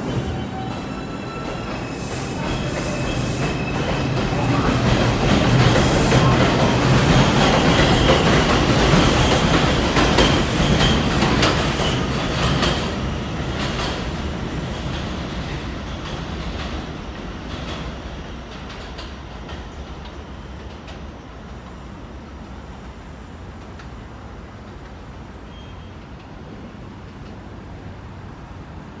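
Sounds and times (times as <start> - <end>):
subway train passing: 0.0 - 29.0.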